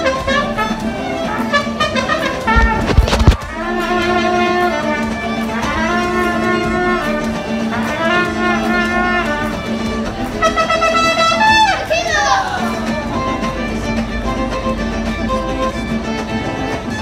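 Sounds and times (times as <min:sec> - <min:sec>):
instrumental music with held notes: 0:00.0 - 0:17.0.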